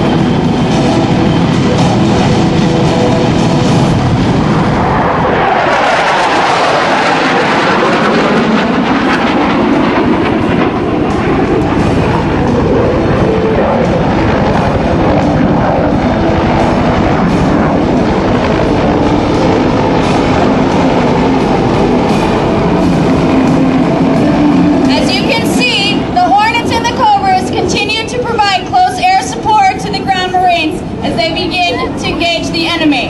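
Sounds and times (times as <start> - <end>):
helicopter rotor blades beating: 0.0 - 33.0
turbine engines: 0.0 - 33.0.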